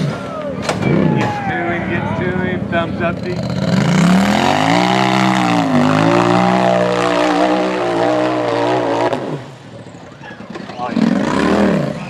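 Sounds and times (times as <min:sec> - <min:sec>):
buggy engine at high revs: 0:02.0 - 0:12.0.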